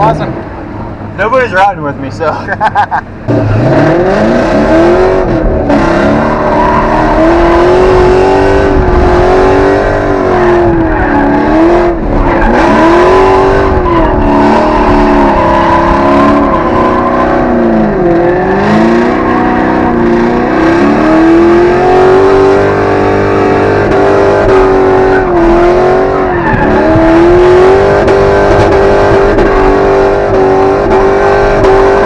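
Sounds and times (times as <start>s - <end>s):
car engine revving hard: 3.2s - 32.0s.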